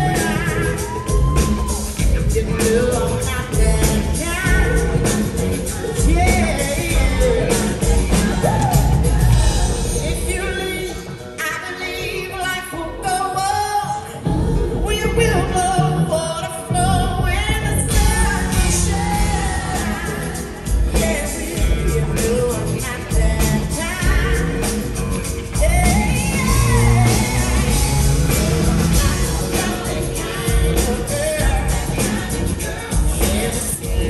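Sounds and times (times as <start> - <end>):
live pop-rock band: 0.0 - 34.0
woman singing: 0.0 - 34.0.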